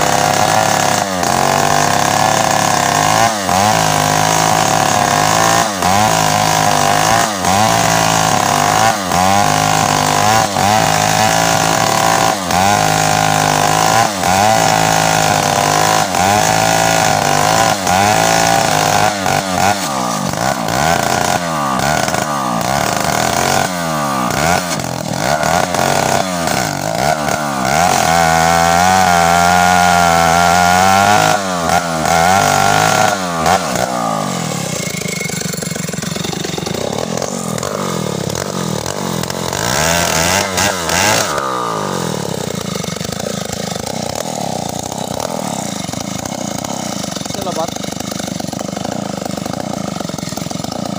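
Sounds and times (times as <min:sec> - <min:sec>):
chainsaw cutting through wood: 0:00.0 - 0:50.9.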